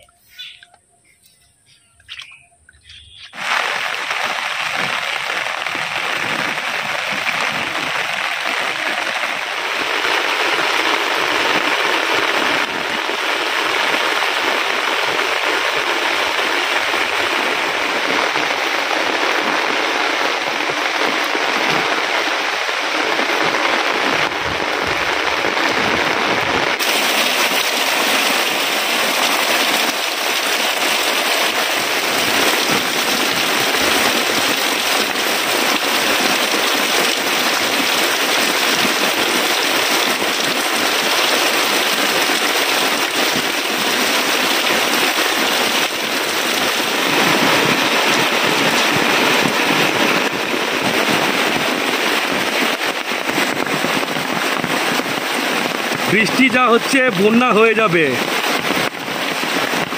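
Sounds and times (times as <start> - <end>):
heavy rain pouring: 2.8 - 59.9.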